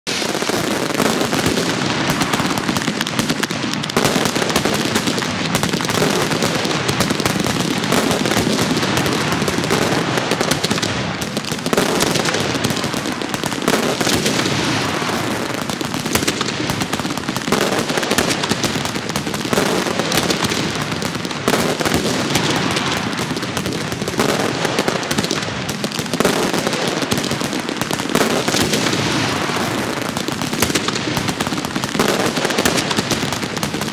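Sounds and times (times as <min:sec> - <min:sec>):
fireworks crackling and popping: 0:00.1 - 0:33.9.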